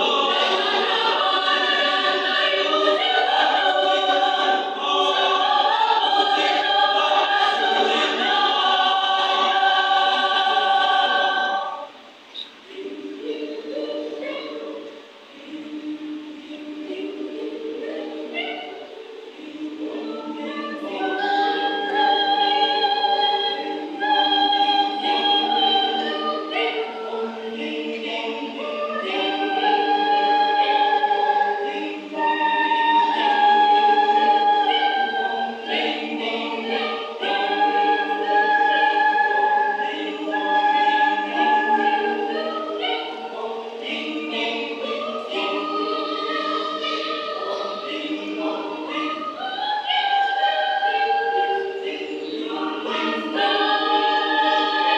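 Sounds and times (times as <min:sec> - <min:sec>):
choir singing unaccompanied: 0:00.0 - 0:54.9.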